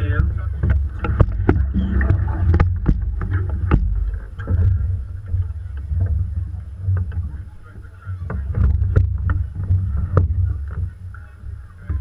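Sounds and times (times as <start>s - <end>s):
knocks and clicks from boat: 0.0s - 12.0s
water lapping against hull: 0.0s - 12.0s
wind rumbling on microphone: 0.0s - 12.0s.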